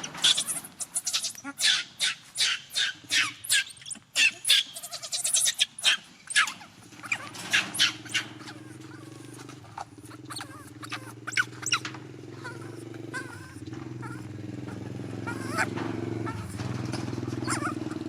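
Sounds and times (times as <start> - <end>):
small motorbike engine running: 0.0 - 3.6, 4.4 - 18.0
baby monkey crying: 0.0 - 16.6, 17.3 - 18.0.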